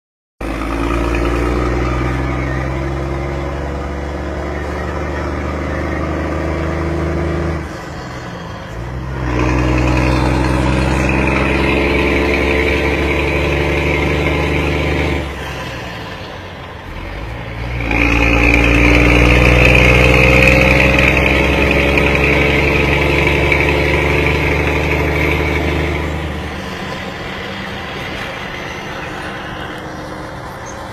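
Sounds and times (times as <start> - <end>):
truck engine revving: 0.4 - 30.9.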